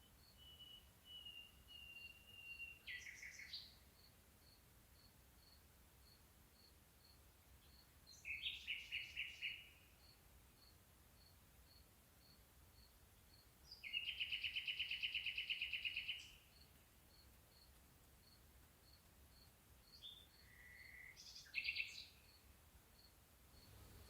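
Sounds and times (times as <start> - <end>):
faint high ticking call: 2.2 - 24.0.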